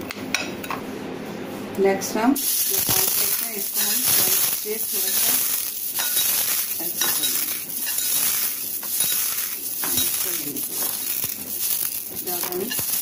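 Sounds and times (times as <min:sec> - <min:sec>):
corn flakes crunching: 0:02.4 - 0:13.0.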